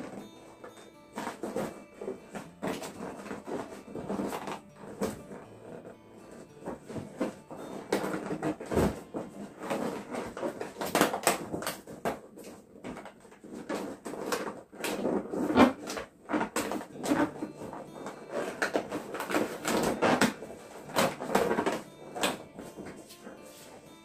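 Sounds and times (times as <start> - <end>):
balloons rubbing and squeaking: 0.0 - 24.0.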